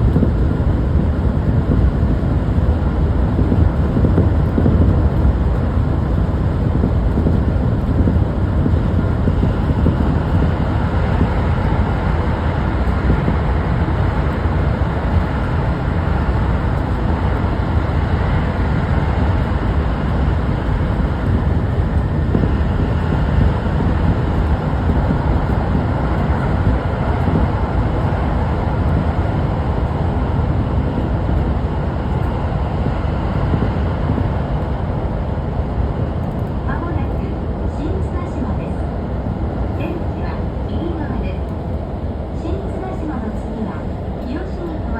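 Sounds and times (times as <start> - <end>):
subway train wheels rumbling: 0.0 - 44.9.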